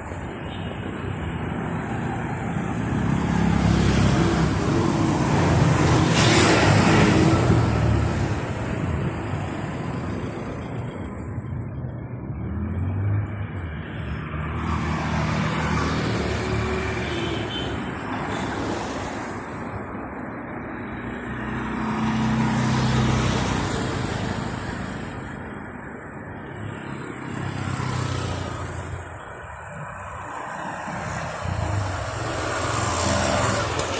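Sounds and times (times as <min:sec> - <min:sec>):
rumble of traffic engines: 0:00.0 - 0:33.9
vehicles passing: 0:00.0 - 0:33.9.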